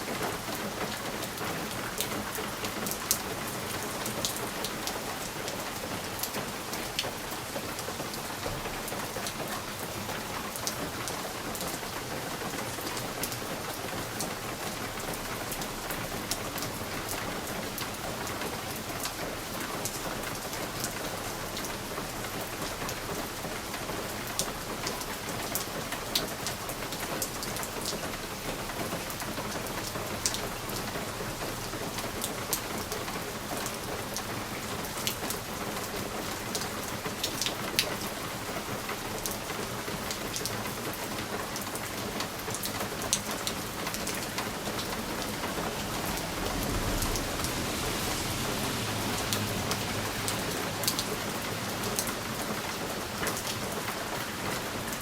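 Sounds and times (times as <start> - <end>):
rain pattering on window glass: 0.0 - 55.0
raindrops ticking sharply: 0.1 - 55.0.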